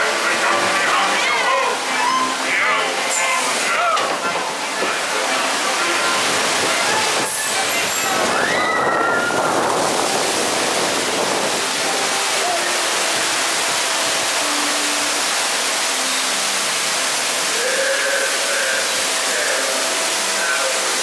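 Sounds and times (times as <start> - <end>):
falling and flowing water: 0.0 - 21.0.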